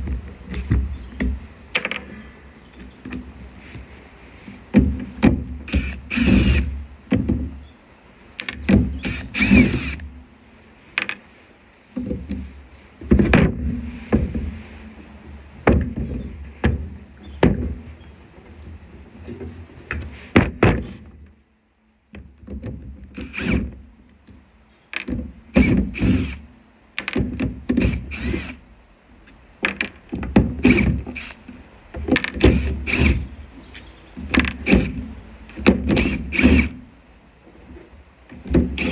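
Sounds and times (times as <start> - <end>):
knocks and clunks of saw parts: 0.0 - 7.7, 8.3 - 10.3, 11.0 - 11.3, 11.9 - 21.4, 22.1 - 38.9.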